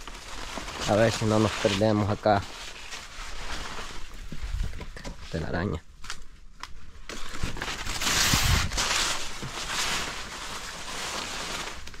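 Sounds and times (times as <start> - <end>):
rustling and crunching: 0.0 - 12.0.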